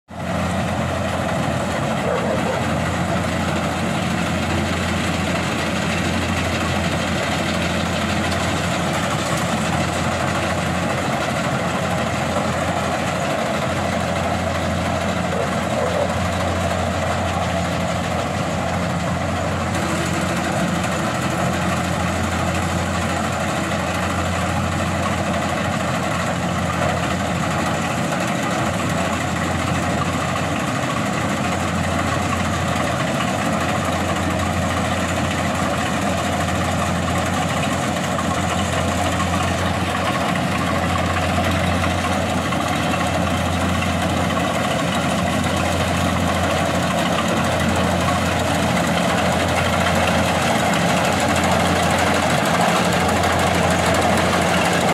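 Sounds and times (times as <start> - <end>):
combine harvester engine droning: 0.1 - 54.9.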